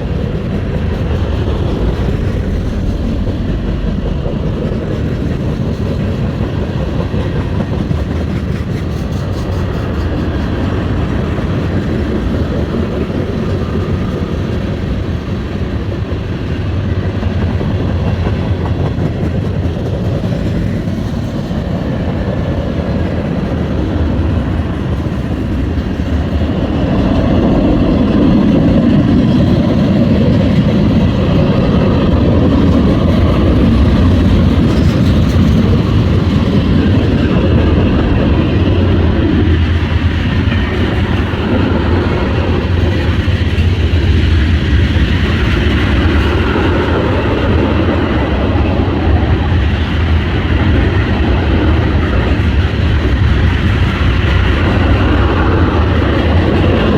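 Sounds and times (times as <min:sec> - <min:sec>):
freight train rumbling past: 0:00.0 - 0:56.9.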